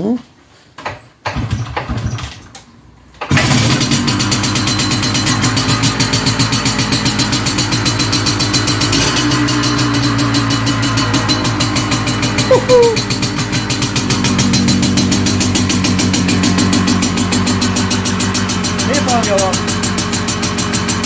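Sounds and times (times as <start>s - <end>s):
motorcycle engine idling: 3.3s - 21.0s.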